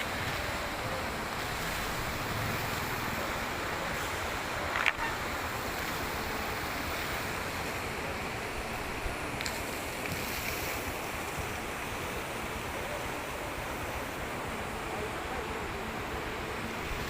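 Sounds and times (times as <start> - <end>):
fast river rushing: 0.0 - 17.0.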